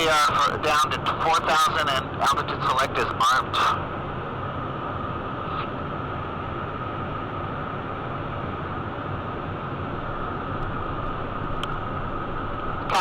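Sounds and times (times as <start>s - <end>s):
jet engine noise in cockpit: 0.0s - 13.0s.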